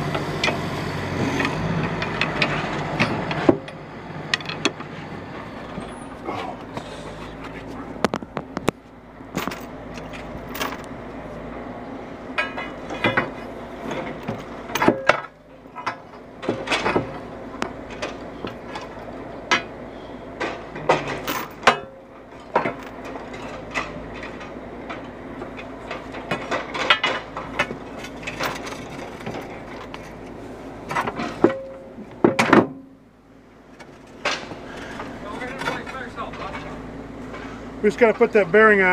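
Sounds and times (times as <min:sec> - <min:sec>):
engine hum: 0:00.0 - 0:38.9
metal clanks and knocks: 0:00.1 - 0:11.2, 0:12.3 - 0:33.0, 0:33.6 - 0:38.4.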